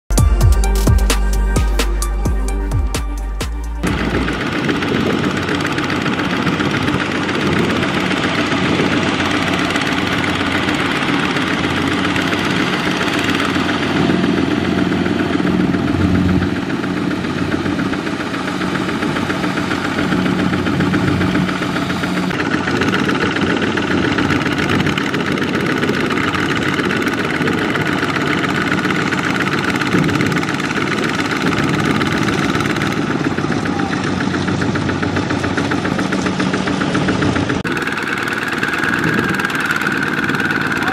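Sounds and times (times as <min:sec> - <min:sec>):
diesel engine running under load: 0:00.1 - 0:40.9.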